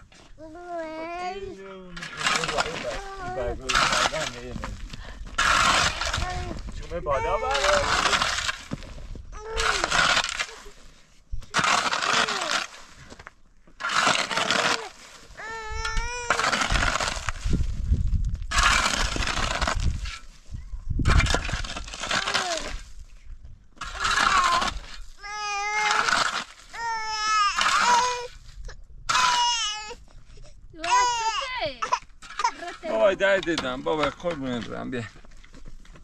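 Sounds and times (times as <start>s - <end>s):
shovel scraping stony soil: 0.0s - 29.8s, 30.8s - 36.0s.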